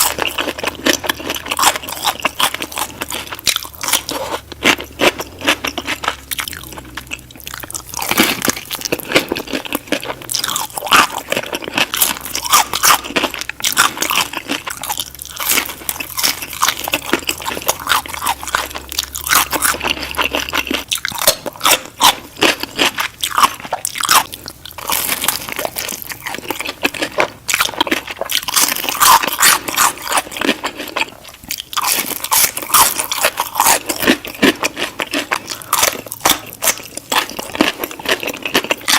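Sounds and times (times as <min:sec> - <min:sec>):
fried chicken crunching: 0:00.0 - 0:38.9.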